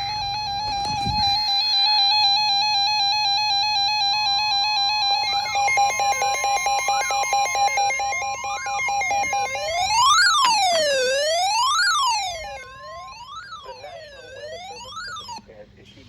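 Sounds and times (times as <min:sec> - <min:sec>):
high warning alarm tone: 0:00.0 - 0:15.4
siren-like sweeps: 0:00.0 - 0:15.4
steady electronic alert tone: 0:00.0 - 0:15.4.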